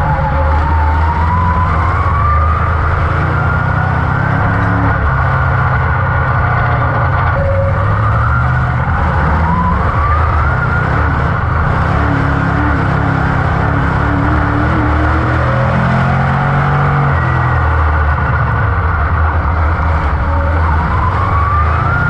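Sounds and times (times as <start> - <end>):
race car engine running hard: 0.0 - 22.0
whine climbing in pitch: 0.0 - 22.0.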